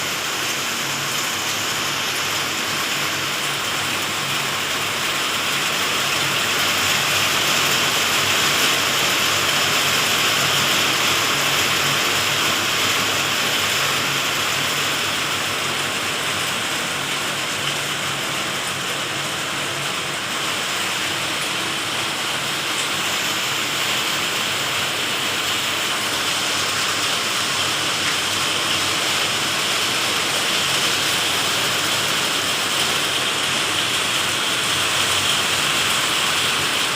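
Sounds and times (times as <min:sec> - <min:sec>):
heavy rain pattering: 0:00.0 - 0:36.9.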